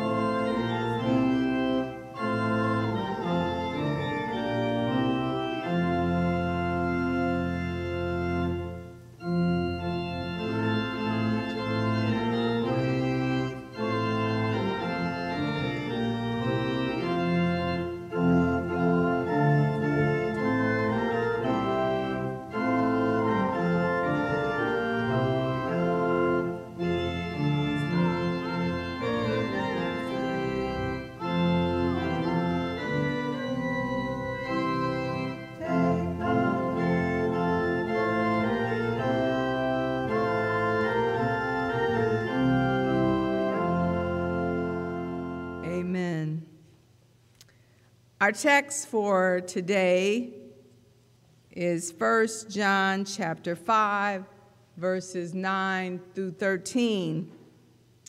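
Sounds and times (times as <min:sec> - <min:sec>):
church organ playing hymn: 0:00.0 - 0:46.5.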